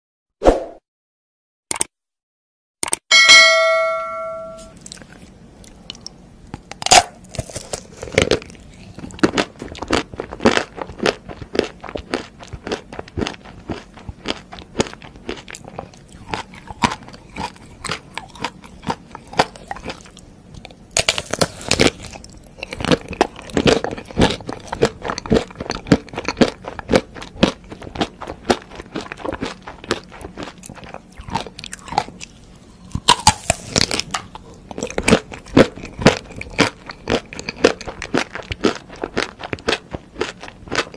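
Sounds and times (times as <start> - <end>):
chewing crunches: 4.8 - 40.9.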